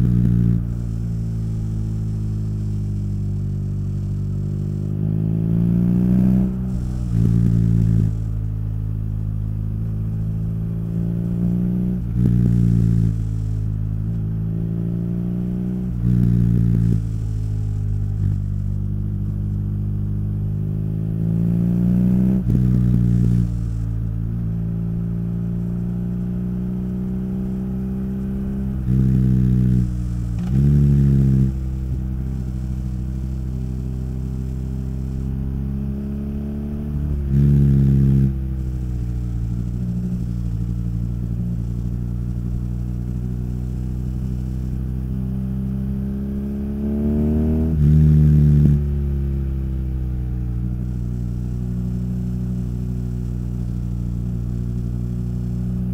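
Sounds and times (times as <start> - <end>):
motorcycle exhaust: 0.0 - 55.9.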